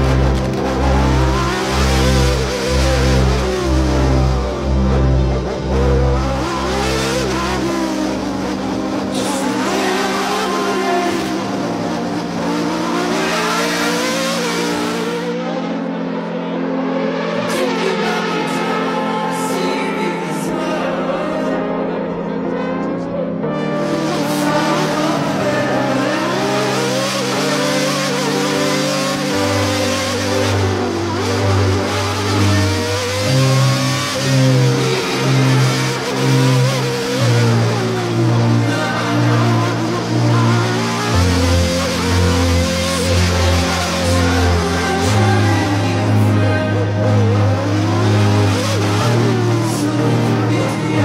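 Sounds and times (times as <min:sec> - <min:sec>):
racing car engine at high revs: 0:00.0 - 0:20.8, 0:23.4 - 0:51.0
music with low held chords: 0:00.0 - 0:51.0.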